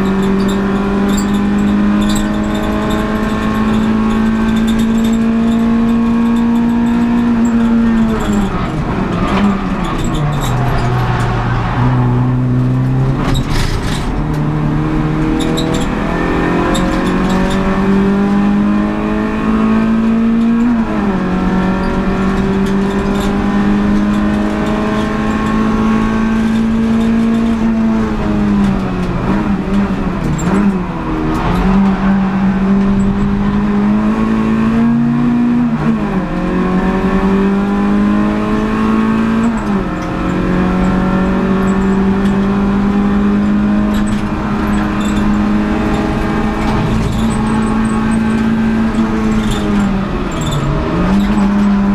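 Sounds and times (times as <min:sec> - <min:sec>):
race car engine from cabin: 0:00.0 - 0:51.9.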